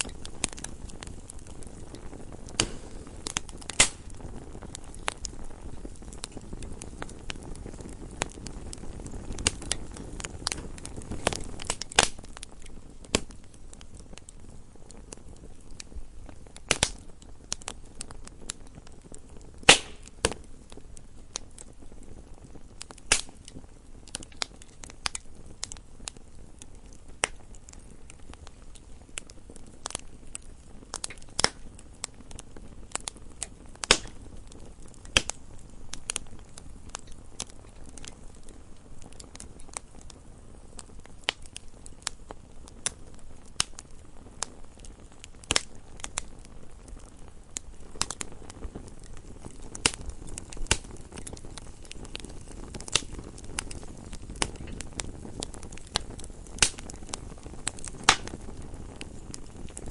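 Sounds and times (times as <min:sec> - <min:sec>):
low rustle of flames: 0:00.0 - 0:59.9
wood fire crackling and popping: 0:00.0 - 0:59.9.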